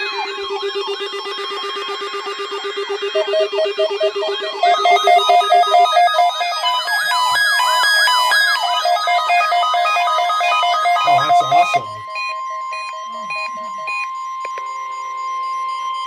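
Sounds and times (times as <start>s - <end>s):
fast pulsing beeps: 0.0s - 16.0s
warbling siren sweeps: 0.0s - 16.0s.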